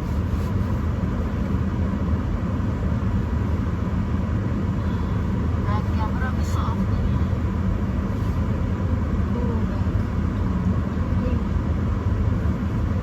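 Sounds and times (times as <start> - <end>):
car cabin rumble and hiss: 0.0 - 13.0
car heater running: 0.0 - 13.0.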